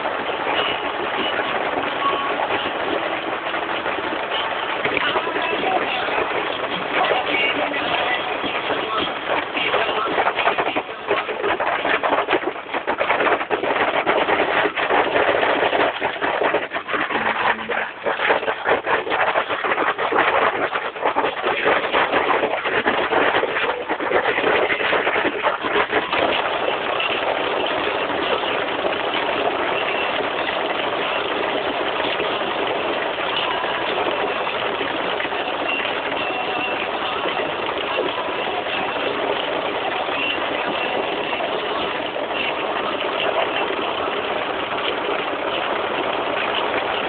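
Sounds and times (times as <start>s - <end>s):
hail clattering: 0.0s - 47.0s.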